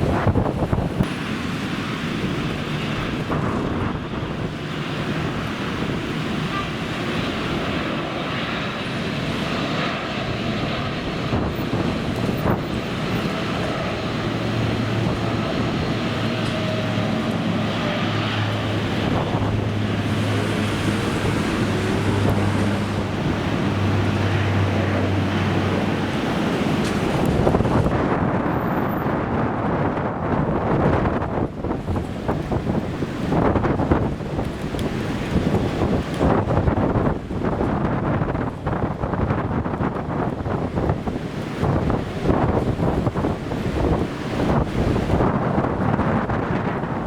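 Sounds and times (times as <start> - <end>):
airliner engines rumbling: 0.0 - 47.0
wind buffeting microphone: 0.0 - 47.0.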